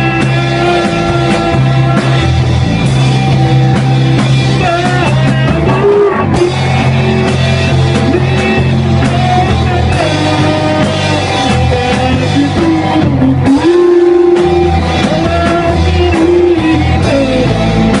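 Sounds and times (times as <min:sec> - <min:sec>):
person singing: 0:00.0 - 0:03.0, 0:04.3 - 0:18.0
drums: 0:00.0 - 0:18.0
electric guitar: 0:00.0 - 0:18.0.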